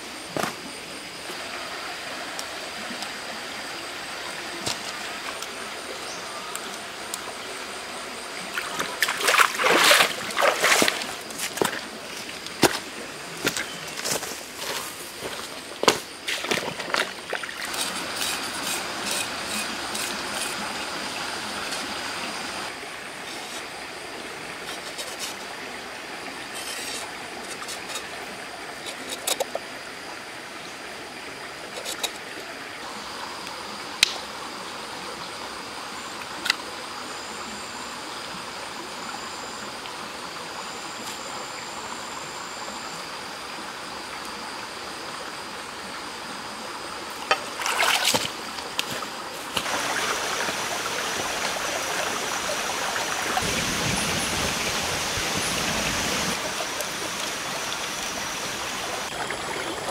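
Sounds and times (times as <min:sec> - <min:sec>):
rushing stream: 0:00.0 - 0:59.9.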